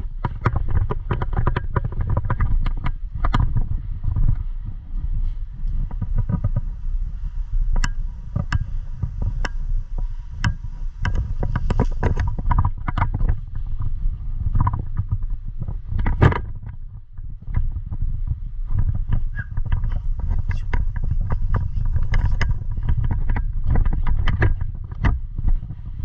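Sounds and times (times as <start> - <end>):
camera handling rumble: 0.0 - 26.0.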